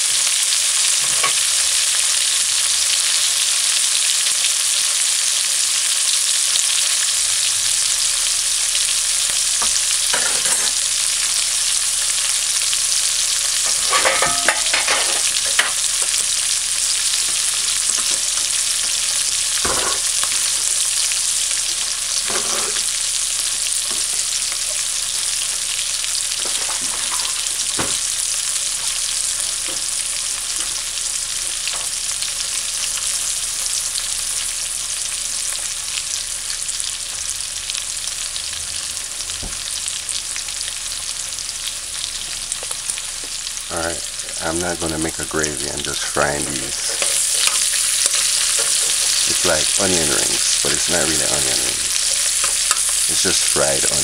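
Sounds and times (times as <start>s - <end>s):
onions sizzling in hot oil: 0.0s - 54.0s.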